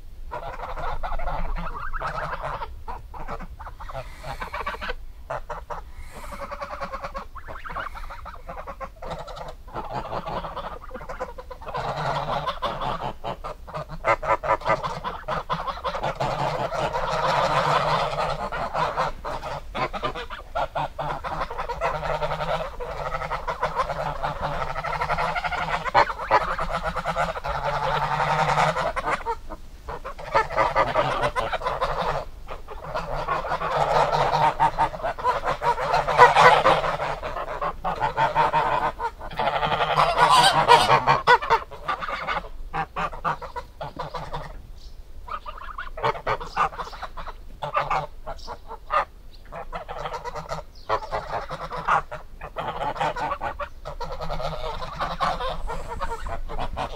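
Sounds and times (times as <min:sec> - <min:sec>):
geese honking: 0:00.3 - 0:56.9.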